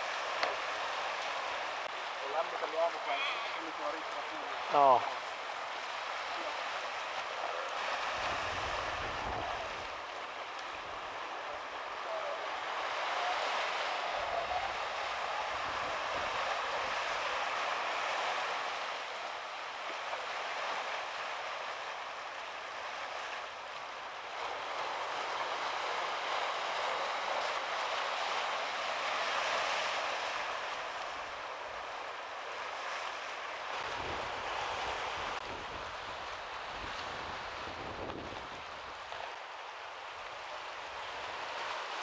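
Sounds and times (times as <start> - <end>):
surf washing over rocks: 0.0 - 42.0.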